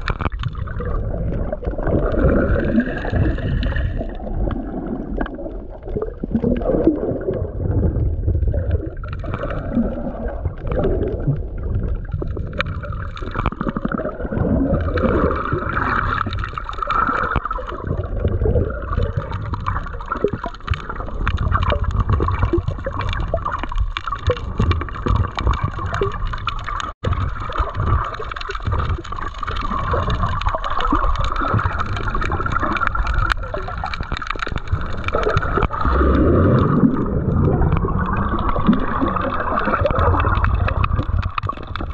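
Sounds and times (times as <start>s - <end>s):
water gurgling underwater: 0.0s - 41.9s.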